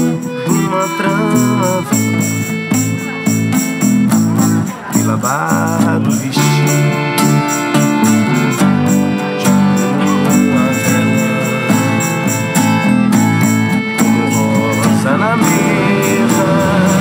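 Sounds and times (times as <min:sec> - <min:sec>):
accordion chords and melody: 0:00.0 - 0:17.0
strummed acoustic guitar: 0:00.0 - 0:17.0
tambourine jingling: 0:00.0 - 0:17.0.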